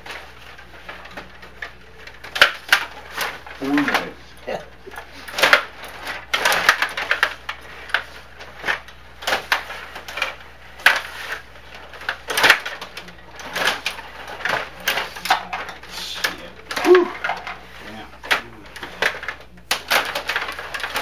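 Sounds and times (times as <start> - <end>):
rod hockey rods clattering: 0.0 - 21.0.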